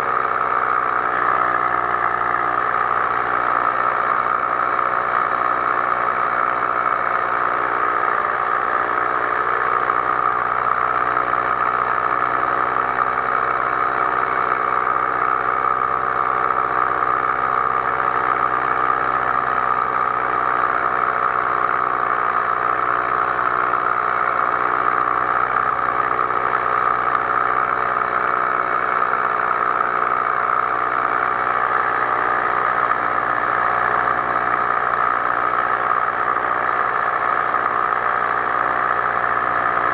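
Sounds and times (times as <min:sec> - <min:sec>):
paraglider engine and propeller: 0:00.0 - 0:39.9.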